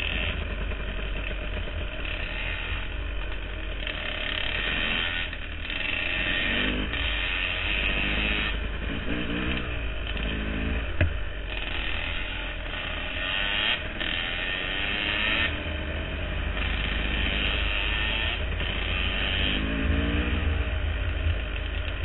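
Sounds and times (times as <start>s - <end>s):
dirt bike engine revving: 0.0s - 3.1s, 3.7s - 21.7s.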